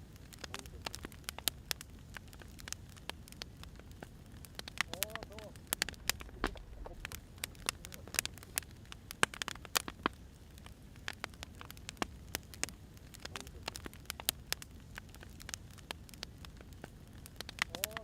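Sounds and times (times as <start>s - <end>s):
firewood crackling and popping: 0.0s - 18.0s
low rush of fire: 0.0s - 18.0s.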